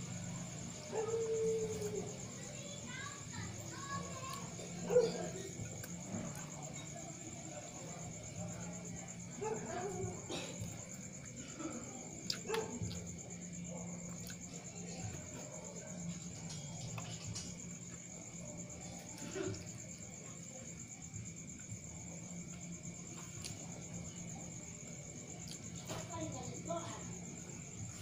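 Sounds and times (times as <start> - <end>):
high-pitched insect trill: 0.0 - 28.0.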